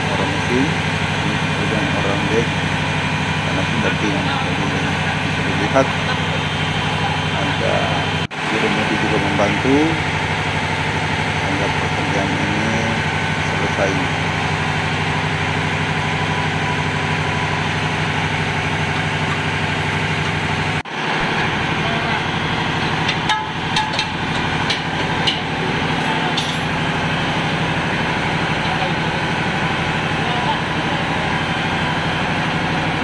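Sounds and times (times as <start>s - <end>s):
diesel machinery drone: 0.0s - 33.0s.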